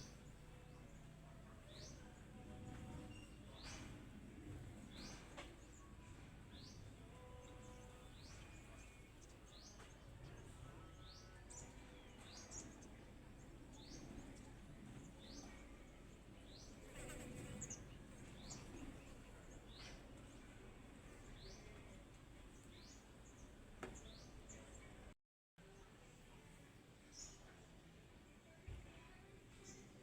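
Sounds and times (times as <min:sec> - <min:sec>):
faint background hum: 0:00.0 - 0:30.0.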